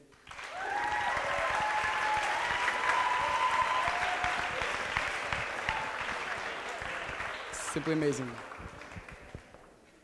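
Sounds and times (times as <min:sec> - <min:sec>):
audience applauding: 0:00.1 - 0:09.8
long drawn-out cheers: 0:00.3 - 0:09.2.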